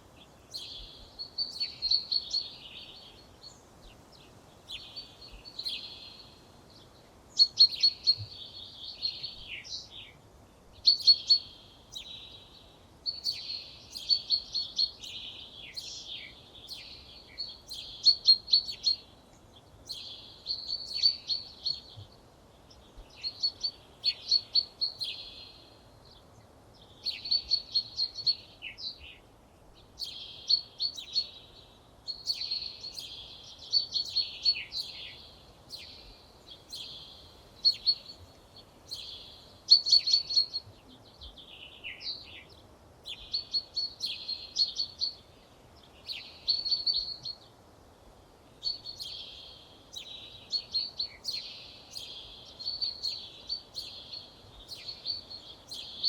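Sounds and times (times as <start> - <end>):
faint background hiss: 0.0 - 56.0
songbird singing: 0.0 - 56.0.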